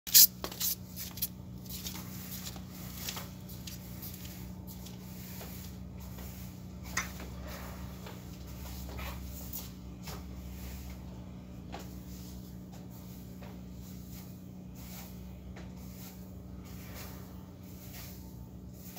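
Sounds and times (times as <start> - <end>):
low mechanical hum: 0.1 - 18.9.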